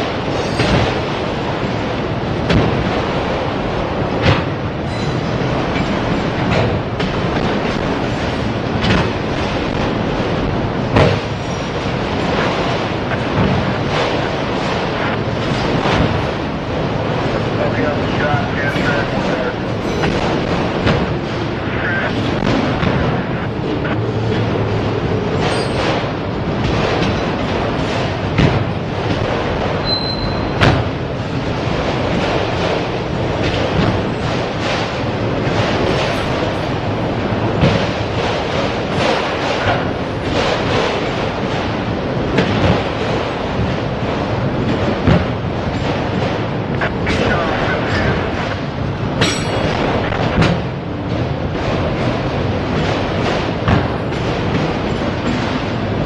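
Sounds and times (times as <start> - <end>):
wheel clacks over rail joints: 0.0 - 21.6, 22.2 - 56.0
freight train rumble: 0.0 - 56.0.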